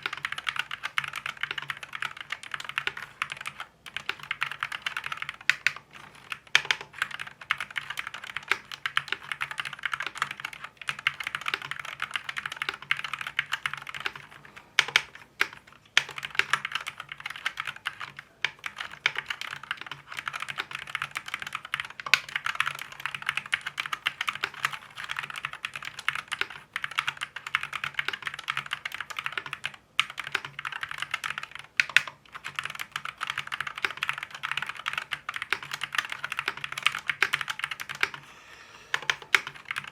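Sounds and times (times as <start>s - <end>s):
fast keyboard typing clacks: 0.0s - 38.2s, 38.9s - 39.9s.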